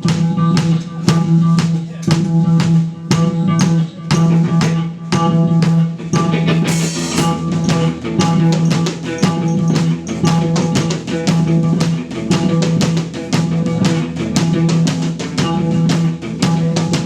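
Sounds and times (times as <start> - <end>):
drum kit beat: 0.0 - 17.0.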